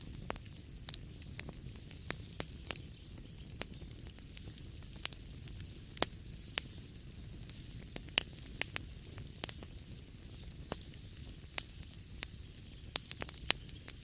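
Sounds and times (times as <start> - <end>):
fire pops and snaps: 0.0 - 14.0
wood fire hissing: 0.0 - 14.0.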